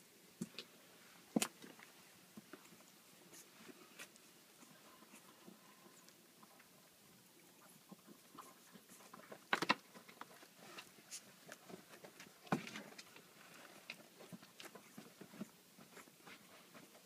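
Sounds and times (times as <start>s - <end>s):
puppies chewing and mouth clicks: 1.4s - 17.0s.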